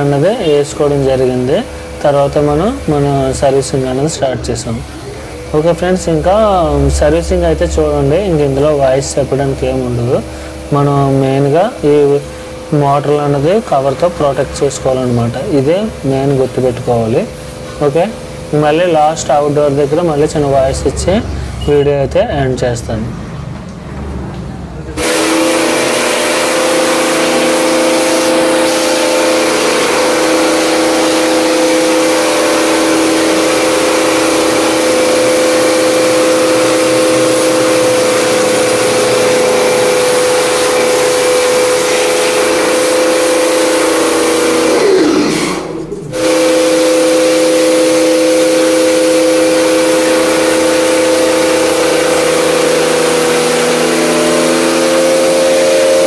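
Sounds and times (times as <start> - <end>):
water jet hissing: 0.0 - 23.0, 25.0 - 56.0
pressure washer motor hum: 0.0 - 56.0.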